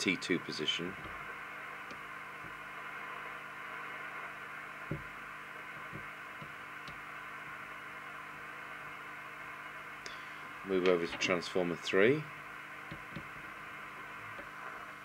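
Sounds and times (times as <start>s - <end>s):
steady hiss and hum: 0.0s - 15.0s.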